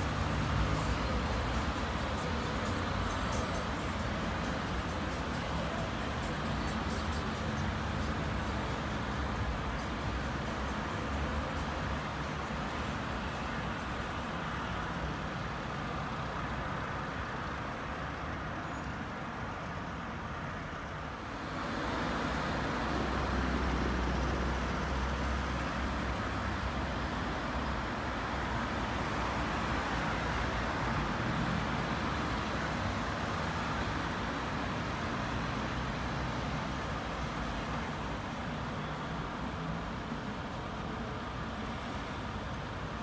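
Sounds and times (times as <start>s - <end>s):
road vehicles passing: 0.0s - 43.0s.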